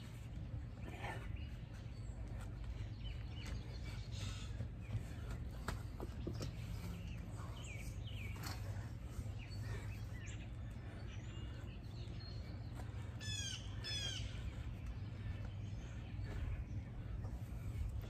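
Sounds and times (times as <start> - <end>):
songbirds chirping: 0.0 - 18.0
steady low hum: 0.0 - 18.0
downward sweeping bird calls: 1.1 - 17.8.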